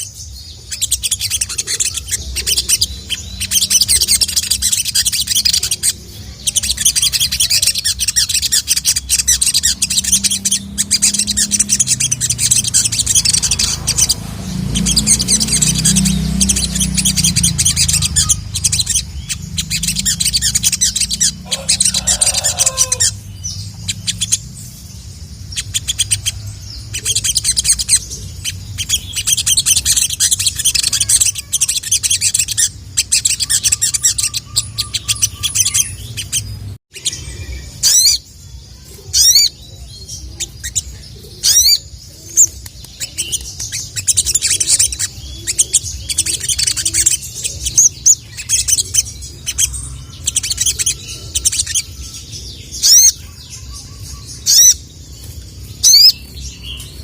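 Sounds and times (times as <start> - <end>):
sunbird chattering trills: 0.0 - 57.0.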